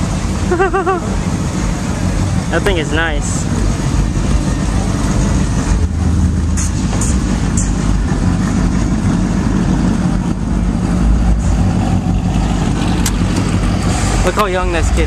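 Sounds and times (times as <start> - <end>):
truck engine passing slowly: 0.0 - 15.0.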